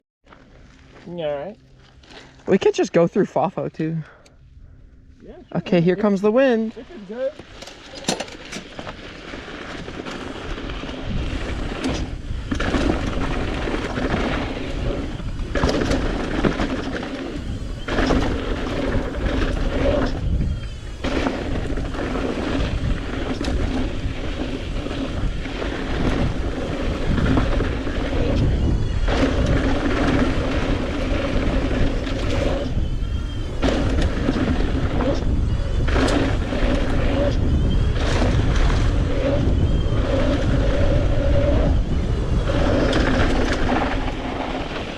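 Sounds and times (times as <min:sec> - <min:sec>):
bike tyres rolling on dirt: 0:00.2 - 0:03.1, 0:05.2 - 0:44.9
wind buffeting microphone: 0:02.5 - 0:44.9.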